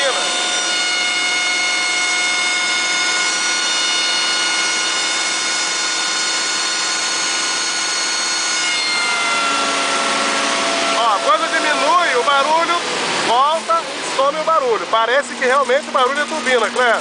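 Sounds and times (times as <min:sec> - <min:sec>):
high-pitched whine: 0:00.0 - 0:14.0
machine engine under load: 0:00.0 - 0:17.0.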